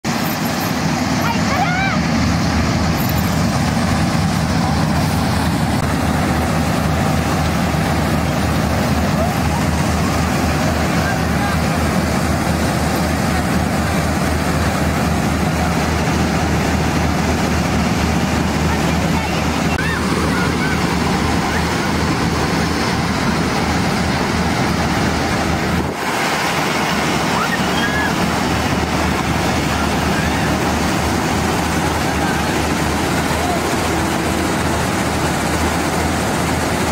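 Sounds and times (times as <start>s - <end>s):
combine harvester droning: 0.0s - 36.9s
low hum: 0.0s - 36.9s.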